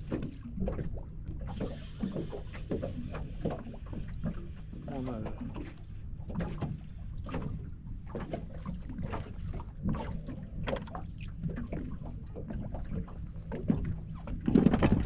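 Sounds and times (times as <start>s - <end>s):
water splashing against boat hull: 0.0s - 15.0s.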